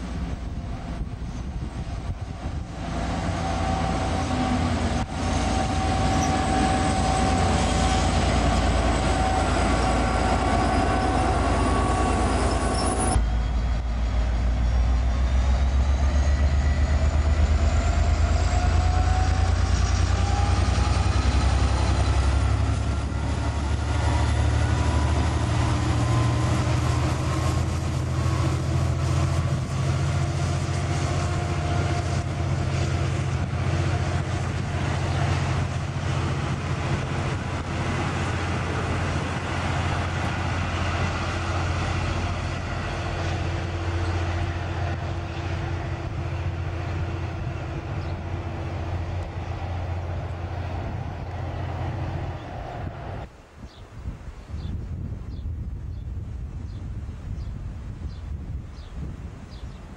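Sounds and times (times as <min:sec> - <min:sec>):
locomotive rising whine: 0:00.0 - 0:53.3
train wheels on rails: 0:00.0 - 0:53.3
diesel locomotive engine rumble: 0:00.0 - 0:53.6.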